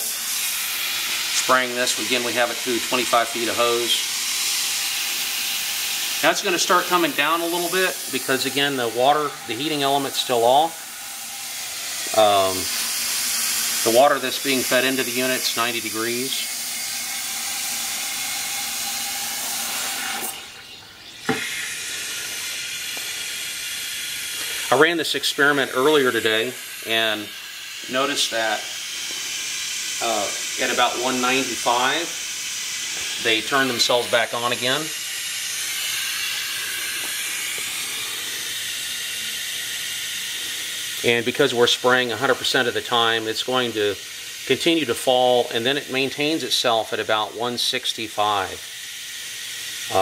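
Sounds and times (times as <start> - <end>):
hot water spraying from wand: 0.0 - 20.6, 21.2 - 50.0.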